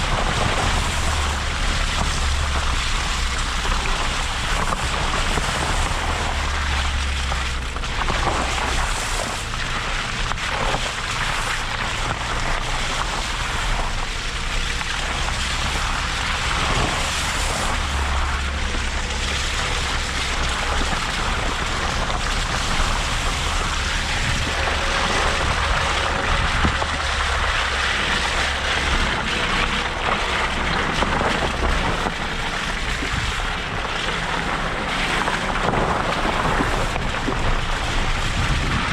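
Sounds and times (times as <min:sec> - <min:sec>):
car engine rumble: 0:00.0 - 0:38.9
wind and tyres on rough track: 0:00.0 - 0:38.9.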